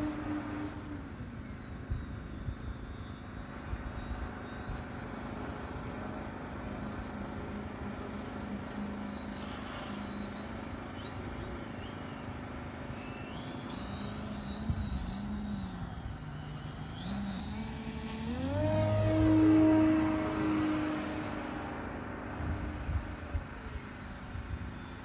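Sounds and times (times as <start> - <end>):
model plane propeller hum: 0.0 - 25.0.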